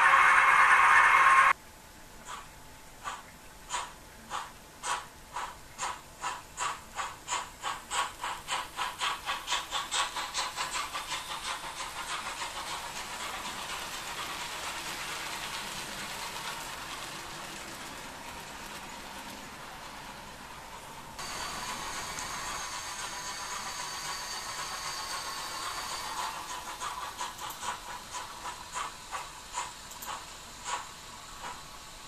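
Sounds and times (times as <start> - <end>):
model steam locomotive chuffs: 0.0 - 1.6, 2.2 - 32.0
continuous steam hiss: 0.0 - 32.0.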